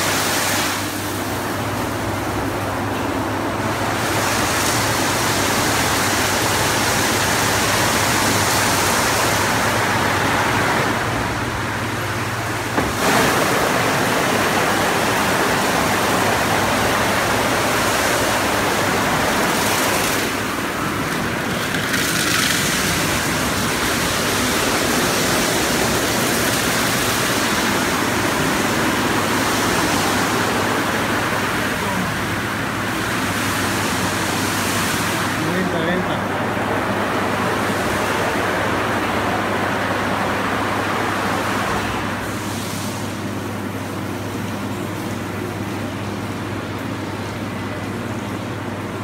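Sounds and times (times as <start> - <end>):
water spraying: 0.0 - 45.4
low machine hum: 0.0 - 49.0.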